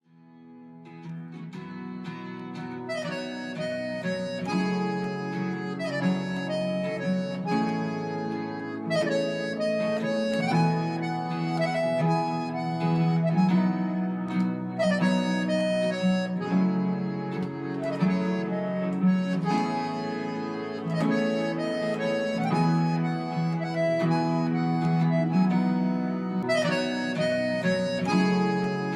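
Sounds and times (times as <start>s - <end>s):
plucked string chords: 0.8s - 28.9s
sustained reedy melody: 2.6s - 28.9s.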